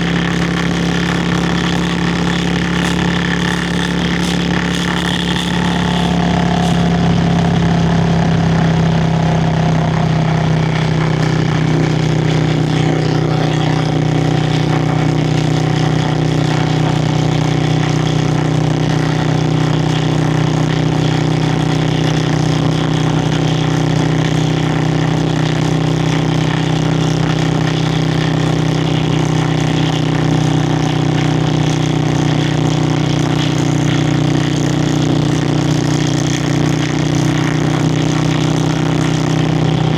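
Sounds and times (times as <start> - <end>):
motorcycle exhaust cruising: 0.0 - 39.9.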